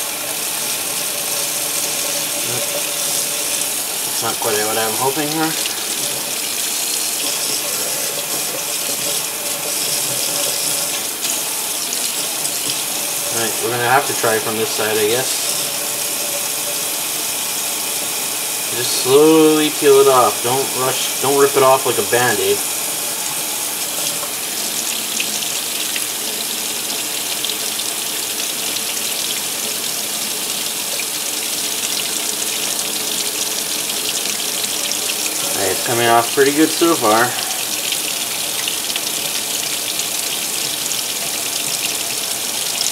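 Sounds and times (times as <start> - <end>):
tap water running into a sink: 0.0 - 42.9.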